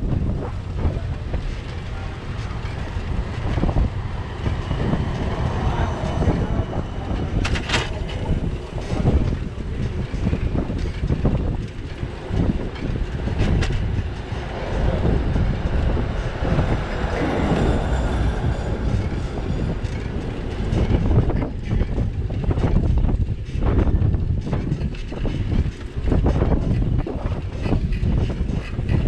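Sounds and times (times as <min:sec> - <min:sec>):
bicycle rattling over bumpy street: 0:00.0 - 0:29.0
wind noise on microphone: 0:00.0 - 0:29.0.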